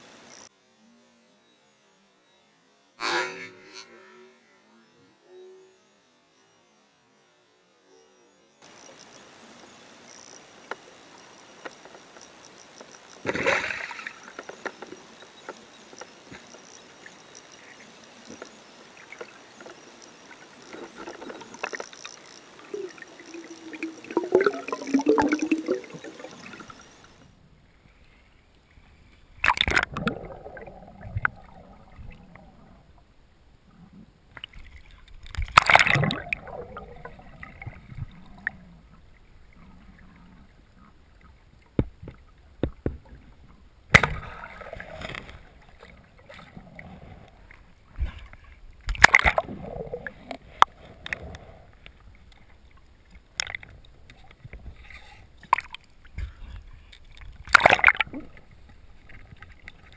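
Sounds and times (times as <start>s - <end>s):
underwater gurgling and sloshing: 10.1s - 59.9s.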